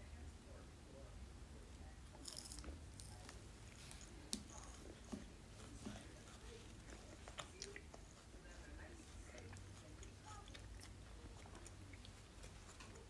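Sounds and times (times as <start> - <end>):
faint chewing: 1.8 - 13.0.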